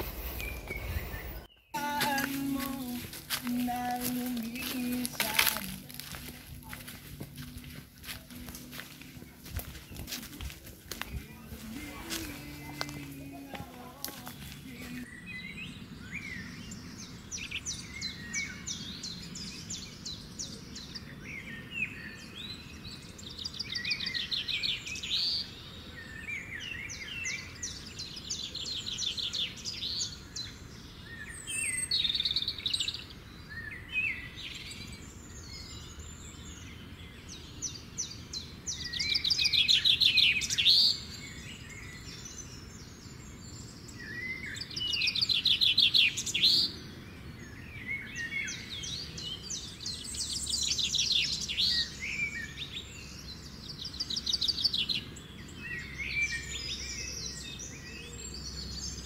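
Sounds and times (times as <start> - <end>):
birds trilling and chirping: 0.0 - 59.0.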